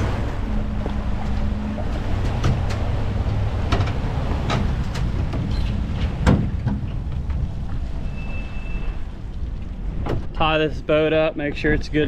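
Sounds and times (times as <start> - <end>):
engine and road rumble: 0.0 - 12.0
trailer rattling and clunking: 0.0 - 12.0.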